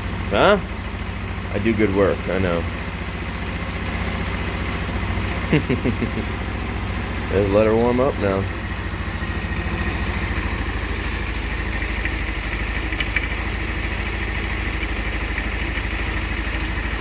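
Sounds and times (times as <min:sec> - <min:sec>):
scooter engine idling: 0:00.0 - 0:17.0.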